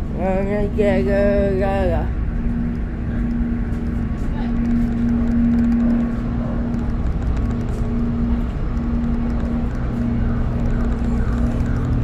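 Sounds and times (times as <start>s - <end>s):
ferry engine rumble: 0.0s - 12.0s
humming drone: 0.0s - 12.0s.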